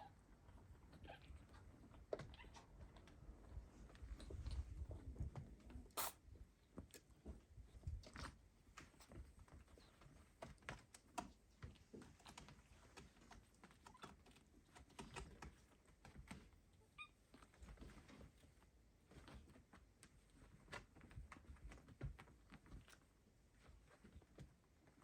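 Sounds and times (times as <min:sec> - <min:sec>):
kittens' paws tapping and scratching: 0:00.3 - 0:25.0.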